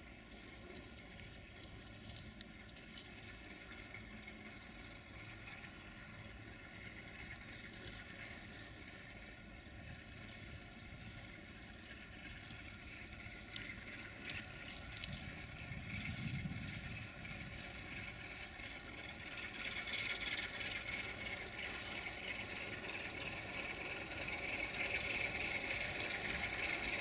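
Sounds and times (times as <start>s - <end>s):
freight train rumble: 0.0s - 27.0s
whistling diesel locomotive engine: 0.0s - 27.0s.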